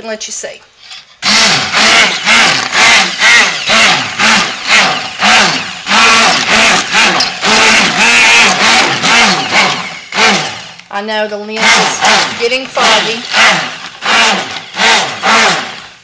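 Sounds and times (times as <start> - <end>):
stick blender running in pot: 1.2 - 10.9, 11.6 - 16.0.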